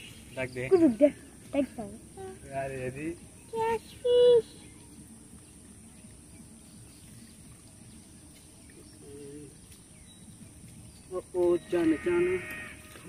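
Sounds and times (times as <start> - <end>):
crickets buzzing: 0.0 - 13.0.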